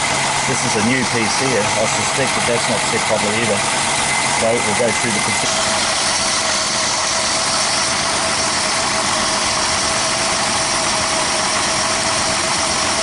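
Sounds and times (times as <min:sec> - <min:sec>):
car engine idling with hiss: 0:00.0 - 0:13.0.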